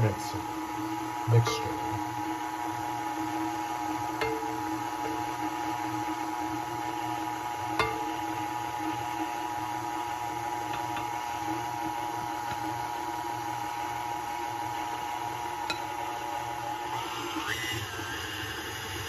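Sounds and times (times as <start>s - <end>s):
stand mixer motor humming: 0.0s - 19.0s.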